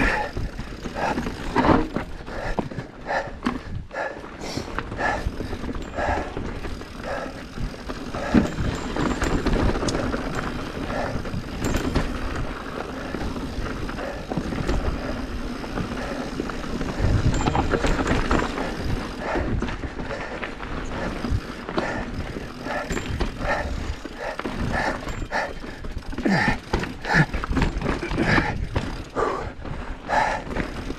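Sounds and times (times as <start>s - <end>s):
bike rattling and knocking: 0.0s - 30.9s.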